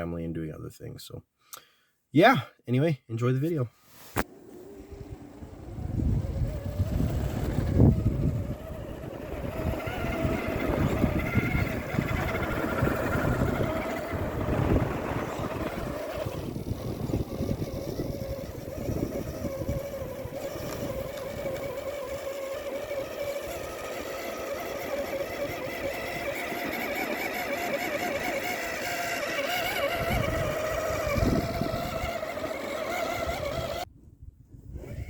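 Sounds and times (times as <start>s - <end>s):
electric motor and gears whining: 4.1s - 33.9s, 34.7s - 35.0s
wind buffeting microphone: 4.8s - 35.0s.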